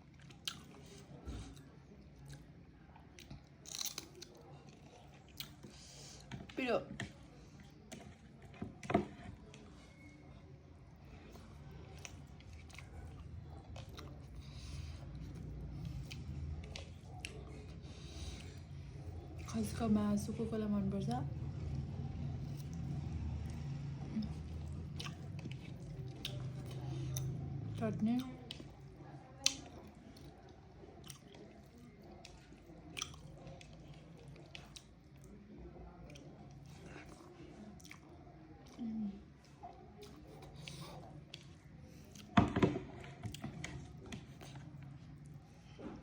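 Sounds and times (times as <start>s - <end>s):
chewing food: 0.0s - 46.0s.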